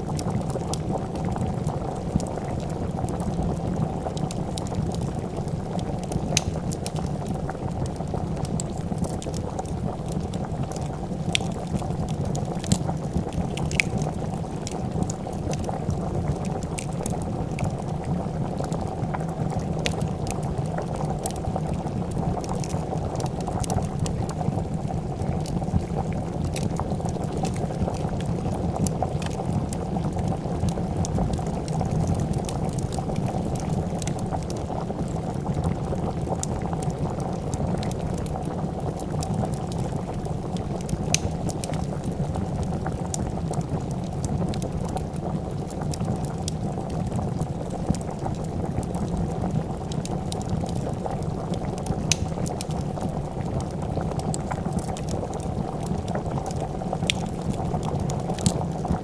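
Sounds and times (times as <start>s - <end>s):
soup boiling and bubbling: 0.0s - 59.0s
wood fire crackling and popping: 0.0s - 59.0s.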